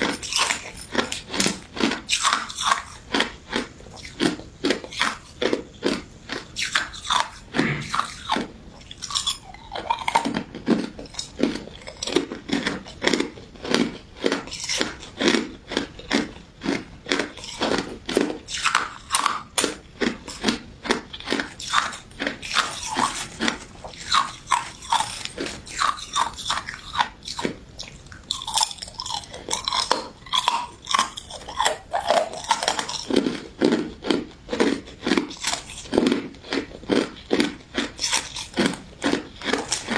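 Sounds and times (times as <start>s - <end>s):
crunching and chewing ice dessert: 0.0s - 39.9s.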